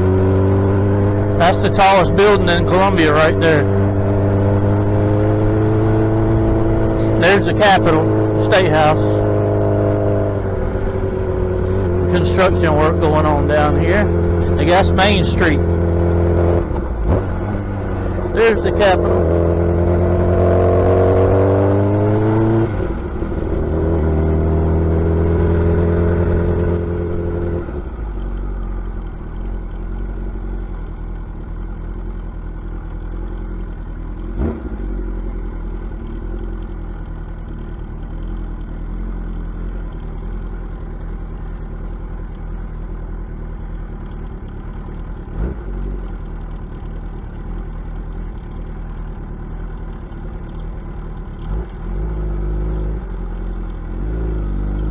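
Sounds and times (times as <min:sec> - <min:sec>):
motorcycle exhaust under throttle: 0:00.0 - 0:01.8, 0:03.6 - 0:12.2, 0:13.4 - 0:14.6, 0:15.6 - 0:18.4, 0:19.0 - 0:54.9.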